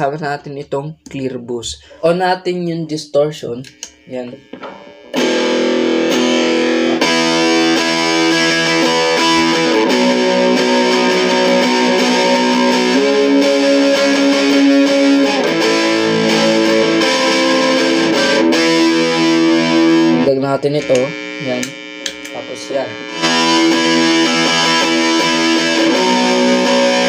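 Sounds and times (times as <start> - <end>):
distorted electric guitar chords: 0.0 - 27.0.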